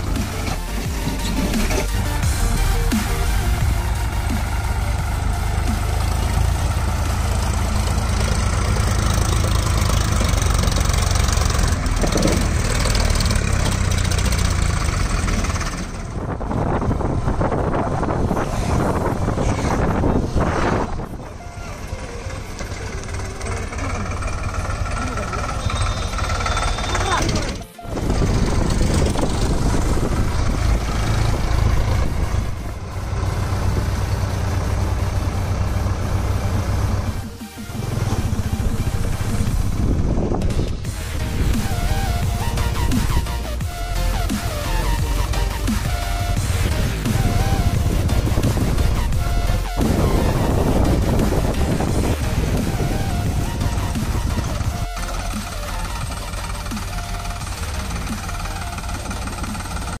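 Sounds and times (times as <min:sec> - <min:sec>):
rough rushing noise: 0:00.0 - 1:00.0
tractor diesel engine running: 0:00.0 - 1:00.0.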